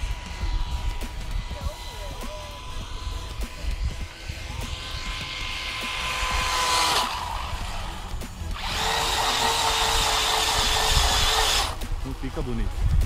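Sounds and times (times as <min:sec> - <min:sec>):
faint electric motor whine: 0:00.0 - 0:13.0
loud hissy rc car motor whine: 0:00.0 - 0:13.0.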